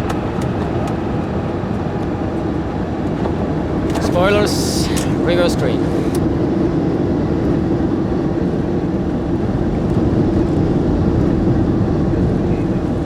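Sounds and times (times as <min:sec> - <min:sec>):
jet engines in reverse thrust: 0:00.0 - 0:13.0.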